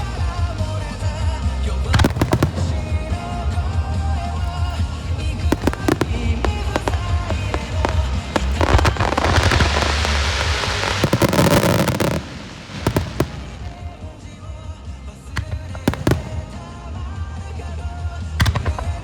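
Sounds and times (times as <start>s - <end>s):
sharp firework bangs: 0.0s - 14.3s, 15.2s - 19.0s
fireworks bursts and crackling: 0.0s - 19.0s
music with singing: 0.0s - 19.0s.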